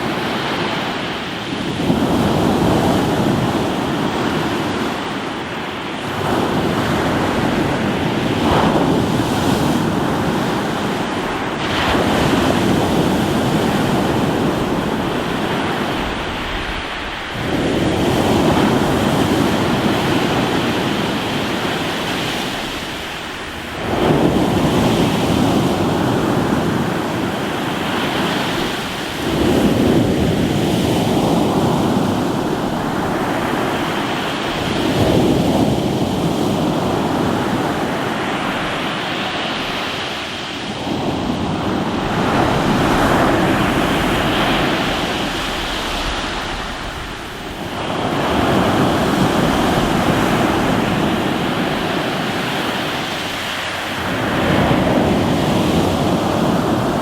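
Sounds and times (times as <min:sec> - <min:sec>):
waves breaking on rocky shore: 0:00.0 - 0:57.0.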